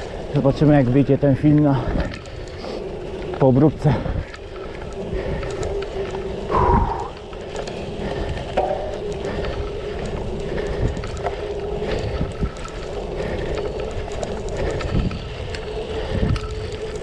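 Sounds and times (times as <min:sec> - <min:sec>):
bike knocking and rattling: 0:00.0 - 0:17.0
tyres rolling on dirt: 0:00.0 - 0:17.0
wind buffeting microphone: 0:00.0 - 0:17.0.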